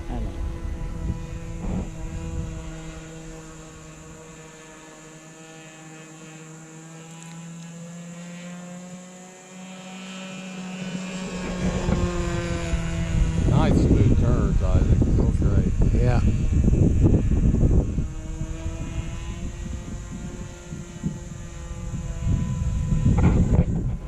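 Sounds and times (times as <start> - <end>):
model plane engine droning: 0.0 - 24.0.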